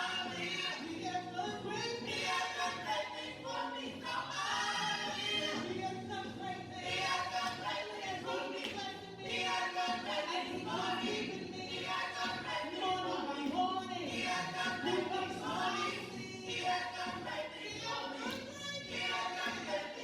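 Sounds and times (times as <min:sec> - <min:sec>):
church choir singing: 0:00.0 - 0:20.0.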